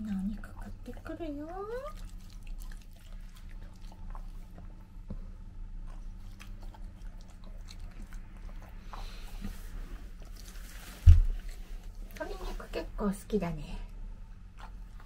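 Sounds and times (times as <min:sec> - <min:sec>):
dog chewing food: 0:00.0 - 0:12.5, 0:14.2 - 0:15.0
low steady hum: 0:00.0 - 0:15.0.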